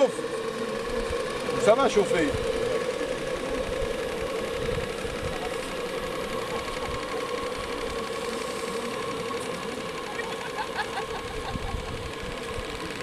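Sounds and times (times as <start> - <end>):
steam plant buzzing: 0.0 - 13.0.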